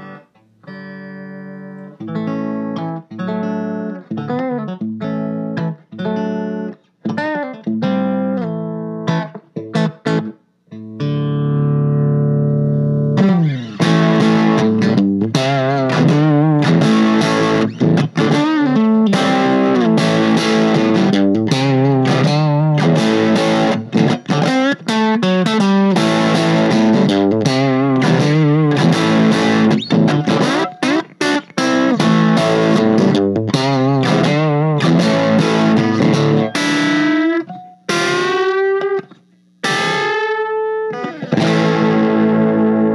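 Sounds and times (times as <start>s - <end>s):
electric guitar playing: 0.0s - 42.9s.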